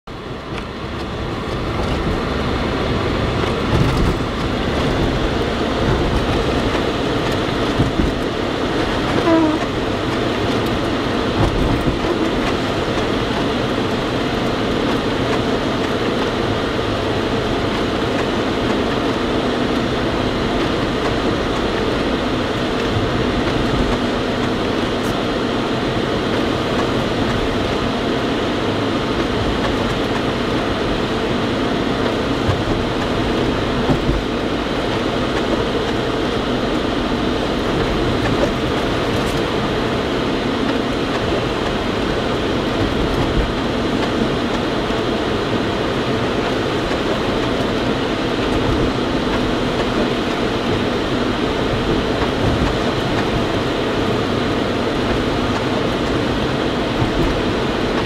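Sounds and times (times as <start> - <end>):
car driving on slushy road: 0.0 - 58.0.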